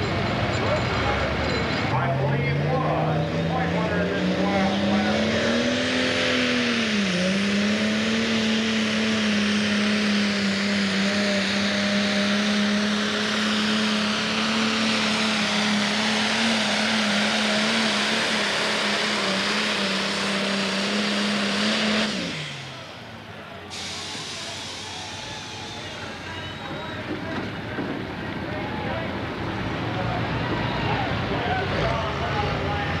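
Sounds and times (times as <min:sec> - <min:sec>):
diesel tractor engine at full throttle: 0:00.0 - 0:33.0.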